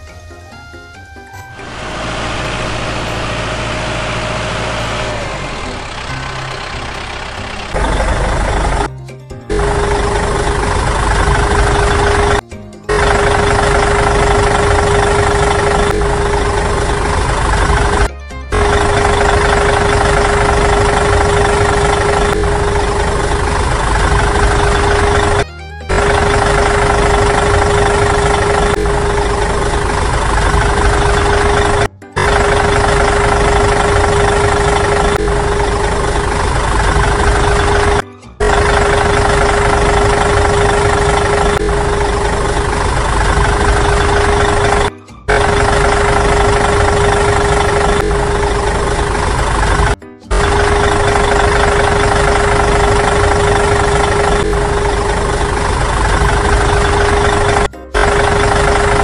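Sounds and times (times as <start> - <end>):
small motor droning: 1.4 - 8.9, 9.5 - 59.0.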